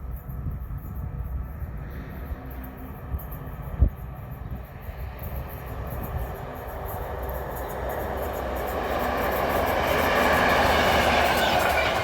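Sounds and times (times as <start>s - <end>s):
train rumble and rail noise: 0.0s - 12.0s.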